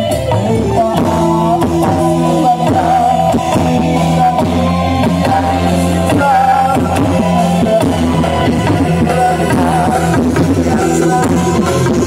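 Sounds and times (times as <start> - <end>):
electronic organ band music: 0.0 - 12.0.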